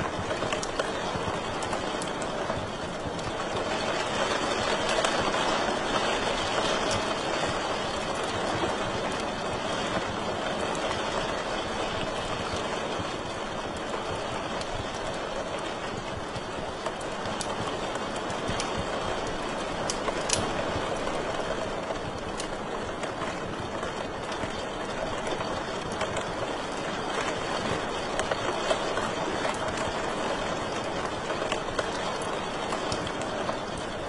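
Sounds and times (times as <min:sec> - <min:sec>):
fire crackling and popping: 0:00.0 - 0:34.0
wood fire hissing: 0:00.0 - 0:34.0.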